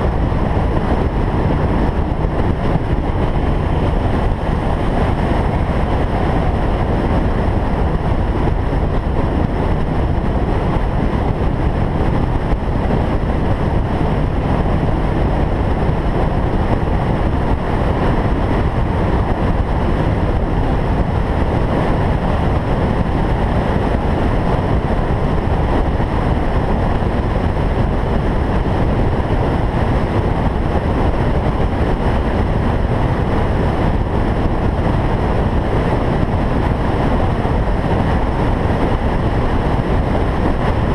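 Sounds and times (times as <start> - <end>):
car engine and road drone: 0.0 - 40.9.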